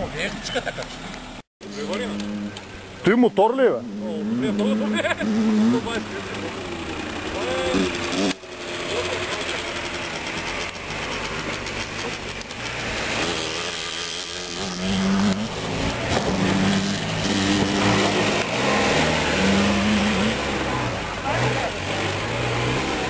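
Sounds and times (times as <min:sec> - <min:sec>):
engine revving under load: 0:01.6 - 0:23.0.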